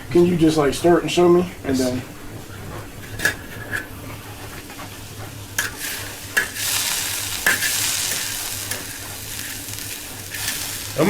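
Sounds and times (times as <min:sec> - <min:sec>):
coffee beans sizzling: 0:00.2 - 0:11.0.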